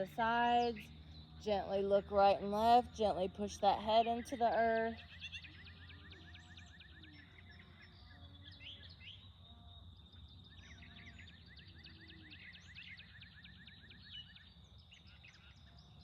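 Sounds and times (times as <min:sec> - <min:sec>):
birds chirping in trills: 0:00.0 - 0:16.0.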